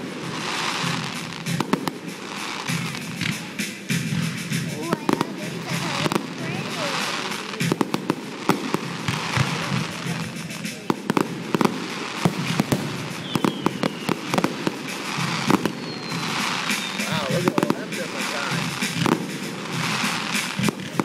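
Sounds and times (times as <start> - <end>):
fireworks bangs and pops: 0.0 - 21.0
high firework whistles: 0.0 - 21.0
spark fountains hissing: 0.0 - 21.0.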